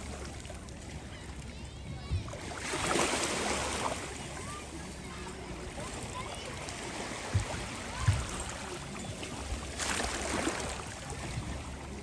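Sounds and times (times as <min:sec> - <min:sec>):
small sea waves washing: 0:02.3 - 0:12.0.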